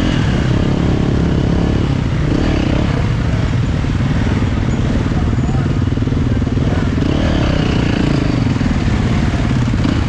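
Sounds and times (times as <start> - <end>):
motorcycle engine revving hard: 0.0 - 10.0.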